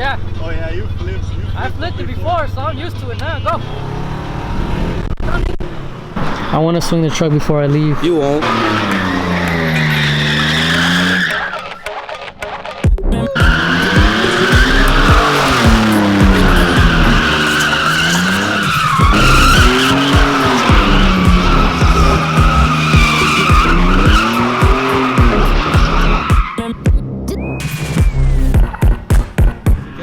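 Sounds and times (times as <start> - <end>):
tires squealing: 0.0 - 30.0
truck engine revving: 0.0 - 30.0.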